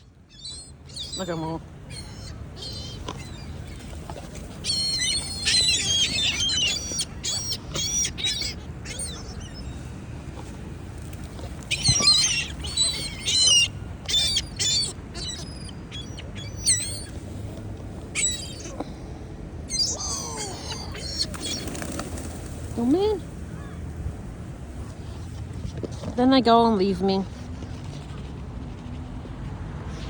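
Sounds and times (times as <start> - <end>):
gulls calling and squawking: 0.0 - 19.0, 19.7 - 25.1.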